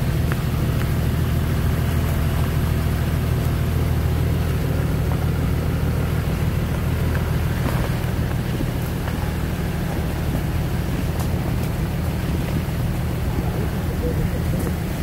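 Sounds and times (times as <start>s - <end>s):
vehicle driving on wet dirt road: 0.0s - 15.0s.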